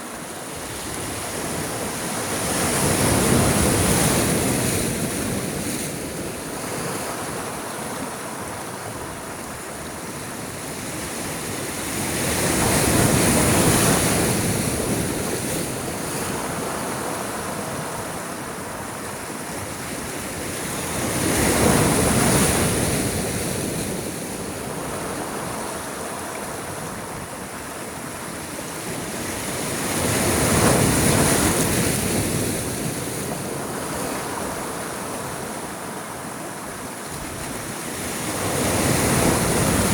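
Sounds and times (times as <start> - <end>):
sea waves breaking: 0.0 - 39.9
wind on the microphone: 0.0 - 39.9.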